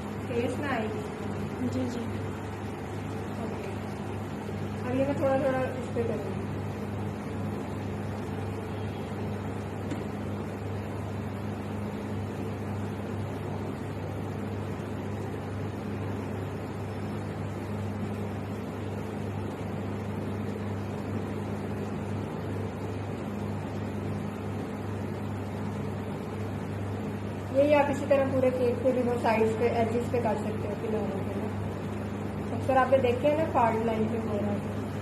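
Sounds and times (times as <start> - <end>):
constant hiss: 0.0 - 35.0
steady low hum: 0.0 - 35.0.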